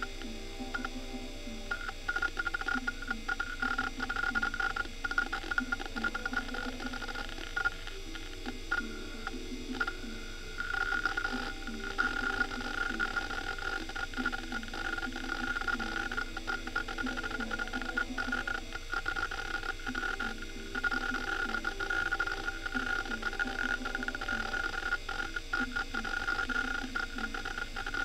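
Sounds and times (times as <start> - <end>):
hard drive heads clicking: 0.0 - 28.0
hard drive spinning whine: 0.0 - 28.0.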